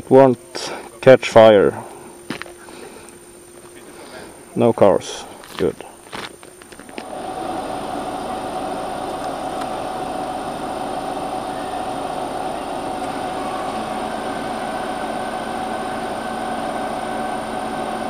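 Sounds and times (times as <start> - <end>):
gas turbine engine roaring: 0.0 - 18.0
high steady whine: 0.0 - 18.0.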